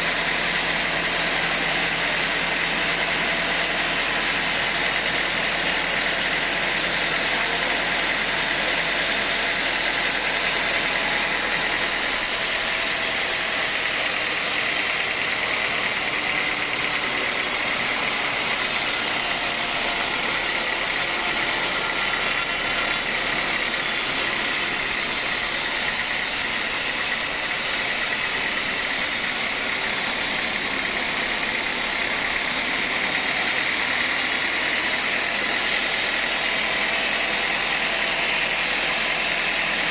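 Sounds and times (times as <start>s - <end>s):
sawmill engine and saw running: 0.0s - 39.9s.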